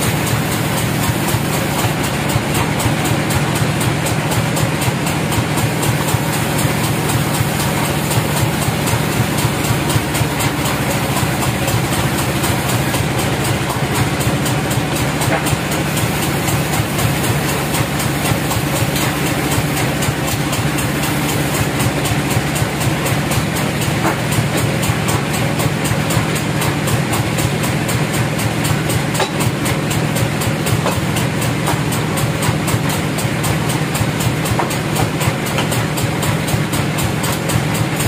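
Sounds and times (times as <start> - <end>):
bandsaw machinery running: 0.0 - 38.0.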